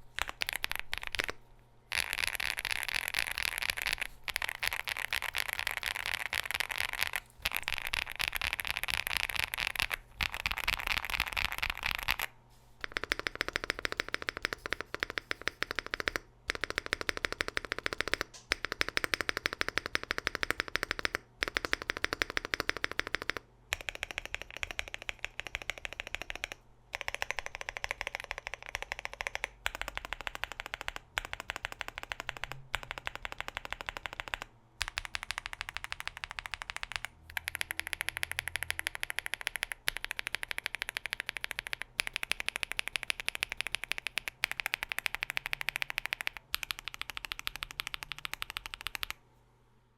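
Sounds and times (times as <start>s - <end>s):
mechanical keyboard typing: 0.0s - 49.2s.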